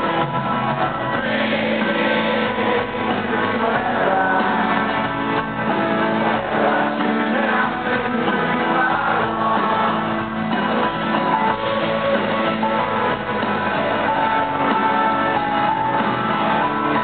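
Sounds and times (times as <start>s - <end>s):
live rock band playing: 0.0s - 17.0s
strummed acoustic guitar: 0.0s - 17.0s.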